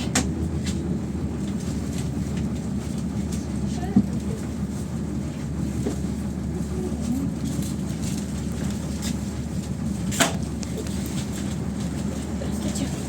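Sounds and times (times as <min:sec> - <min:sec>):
bus engine hum from inside: 0:00.0 - 0:13.0.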